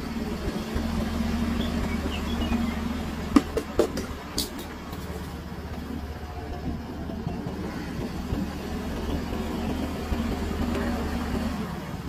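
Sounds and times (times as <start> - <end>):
vehicle running noise: 0.0 - 12.0.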